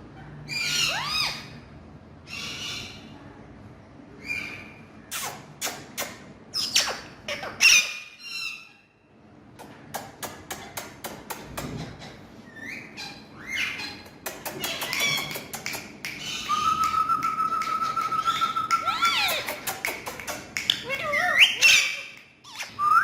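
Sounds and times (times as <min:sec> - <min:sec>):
parrot squawking and chattering: 0:00.1 - 0:03.1, 0:04.2 - 0:09.0, 0:10.0 - 0:23.0.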